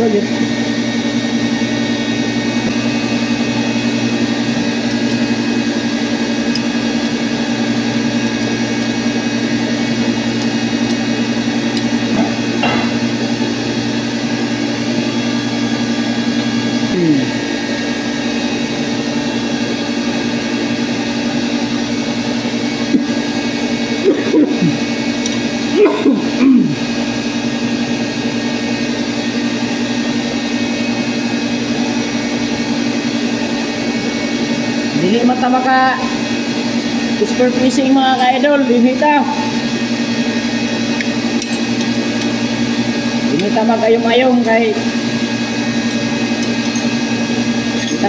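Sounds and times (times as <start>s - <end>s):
electric motor humming: 0.0s - 48.0s.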